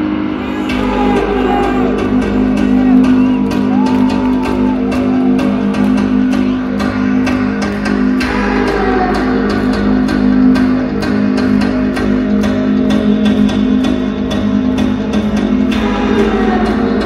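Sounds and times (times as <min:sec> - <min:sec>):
steady drum beat: 0:00.4 - 0:17.0.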